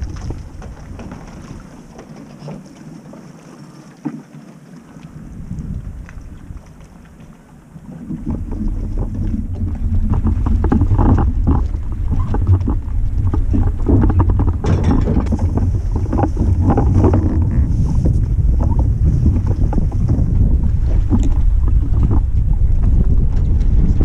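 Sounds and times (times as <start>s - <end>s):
wind buffeting microphone: 0.0s - 1.9s, 5.1s - 24.0s
water splashes and knocks: 0.0s - 4.6s, 6.0s - 24.0s.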